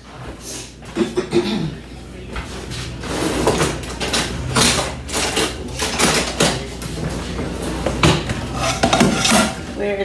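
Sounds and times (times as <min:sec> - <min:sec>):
kitchen utensils clattering: 0:00.0 - 0:01.8, 0:02.4 - 0:10.0.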